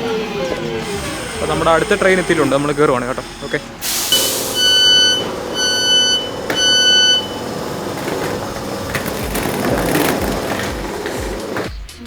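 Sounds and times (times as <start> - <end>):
train carriage hum: 0.0 - 12.0
train door warning beeps: 0.9 - 11.6.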